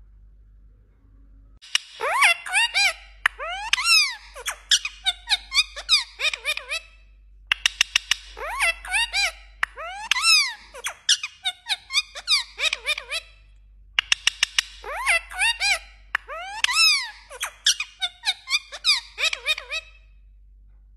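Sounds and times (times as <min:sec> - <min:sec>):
parakeet whistling and chirping: 0:01.6 - 0:13.4, 0:14.0 - 0:20.1.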